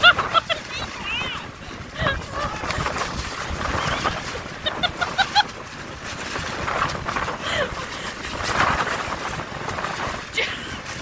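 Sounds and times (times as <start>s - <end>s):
tent tarp flapping: 0.0s - 11.0s
wind buffeting microphone: 0.0s - 11.0s.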